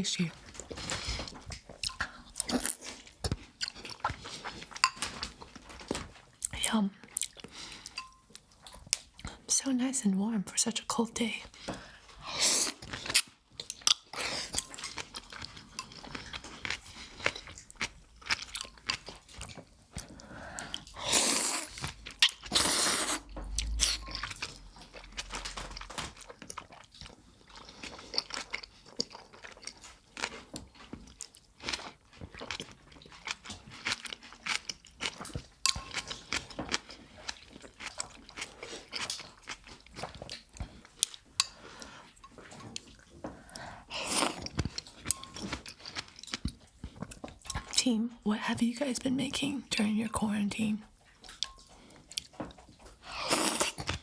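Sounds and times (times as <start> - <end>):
longer noisy eating sounds: 0.3 - 9.6, 11.4 - 54.0
wet chewing: 0.4 - 9.5, 11.5 - 47.8, 50.9 - 54.0.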